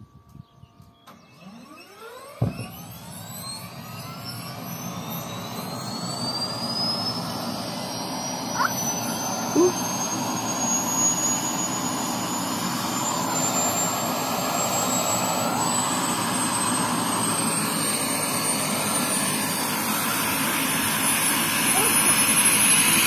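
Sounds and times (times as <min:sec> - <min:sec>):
high turbine whine: 0:02.5 - 0:23.0
helicopter turbine rushing: 0:02.7 - 0:23.0.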